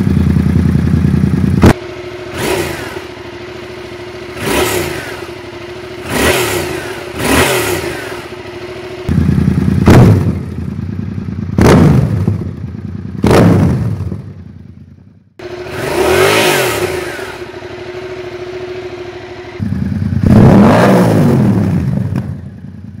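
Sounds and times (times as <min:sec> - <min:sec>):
motorcycle engine idling: 0:00.0 - 0:20.4, 0:21.1 - 0:23.0
engine throttle blips: 0:00.0 - 0:23.0.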